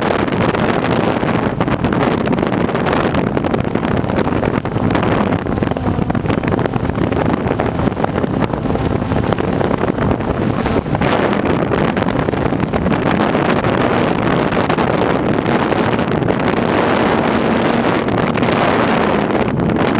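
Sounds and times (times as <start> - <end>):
drone propellers buzzing: 0.0 - 19.9
wind buffeting microphone: 0.0 - 19.9.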